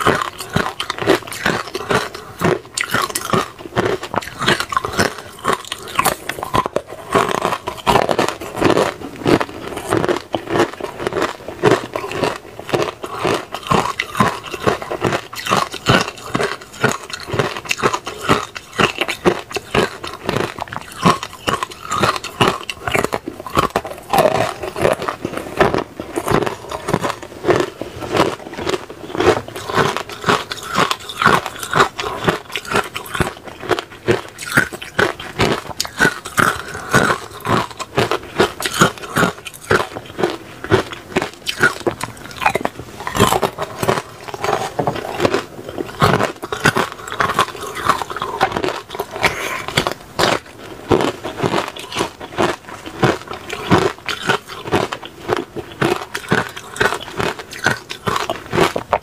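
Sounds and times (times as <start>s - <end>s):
ice cubes crunching between teeth: 0.0s - 59.0s.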